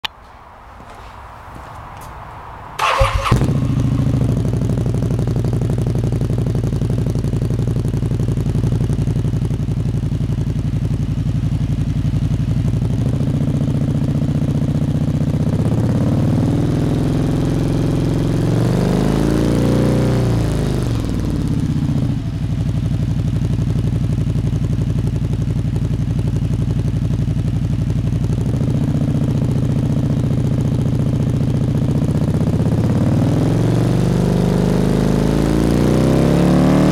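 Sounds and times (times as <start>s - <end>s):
motorcycle engine idling and revving: 0.8s - 36.9s
motorcycle engine starting: 2.6s - 18.5s, 19.8s - 36.9s.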